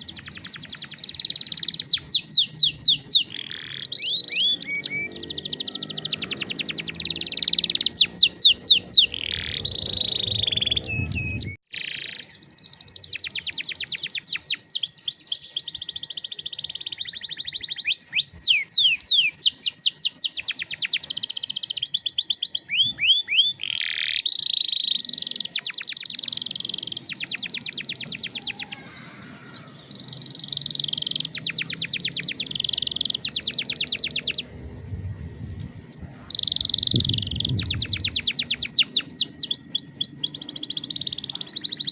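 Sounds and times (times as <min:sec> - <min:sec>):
canary singing trills: 0:00.0 - 0:34.5, 0:35.9 - 0:41.9.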